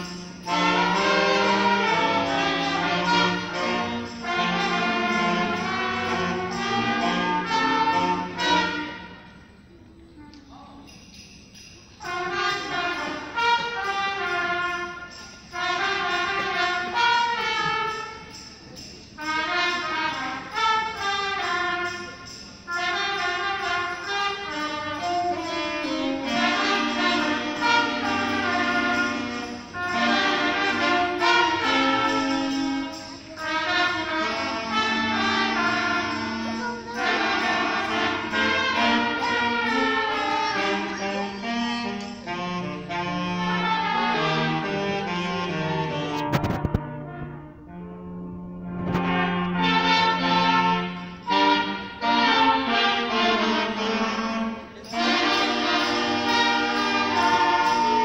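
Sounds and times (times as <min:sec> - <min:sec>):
concert band playing: 0:00.0 - 0:09.3, 0:12.0 - 0:58.0.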